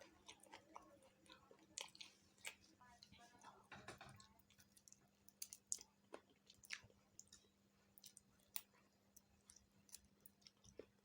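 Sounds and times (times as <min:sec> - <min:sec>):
person chewing food: 0:00.0 - 0:03.6, 0:04.2 - 0:11.0.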